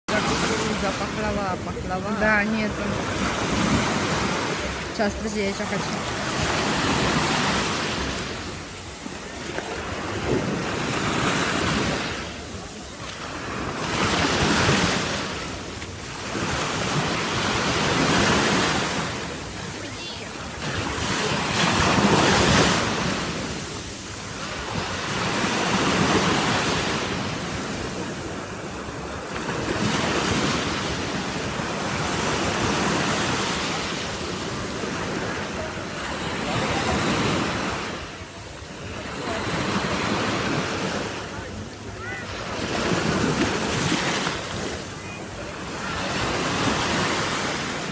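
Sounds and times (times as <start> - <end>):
sea waves breaking on shore: 0.1 - 47.9.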